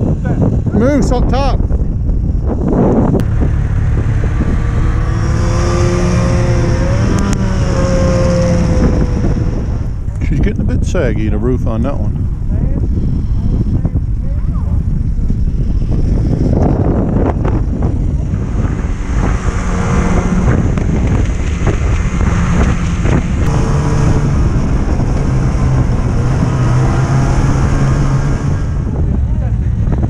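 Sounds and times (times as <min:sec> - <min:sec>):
snowmobile engine running: 0:00.0 - 0:30.0
wind buffeting microphone: 0:00.0 - 0:30.0.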